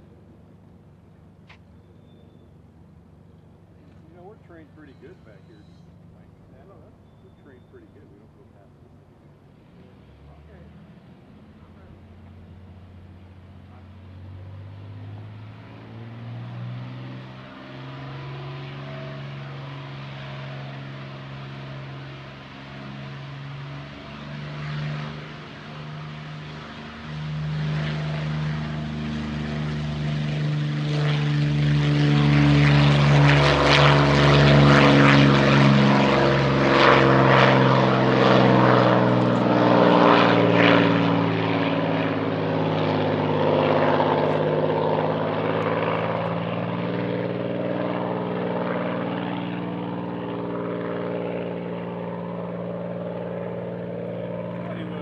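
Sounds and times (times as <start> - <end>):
propeller aircraft engine at takeoff: 0.0 - 55.0.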